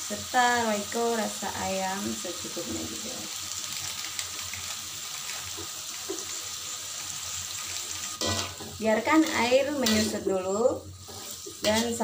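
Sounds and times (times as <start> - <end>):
vegetables simmering in a wok: 0.0 - 12.0.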